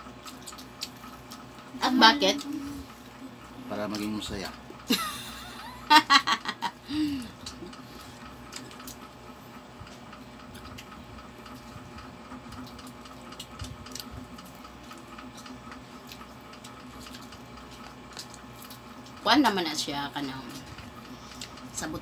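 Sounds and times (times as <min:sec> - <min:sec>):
chewing: 0:00.0 - 0:04.9, 0:07.2 - 0:19.2, 0:20.4 - 0:21.8
faint steady hum: 0:00.0 - 0:22.0.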